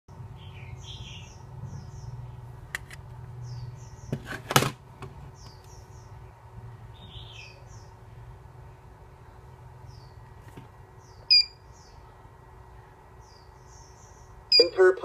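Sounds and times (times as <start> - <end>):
small birds chirping: 0.1 - 4.2, 5.2 - 15.0
steady low hum: 0.1 - 15.0.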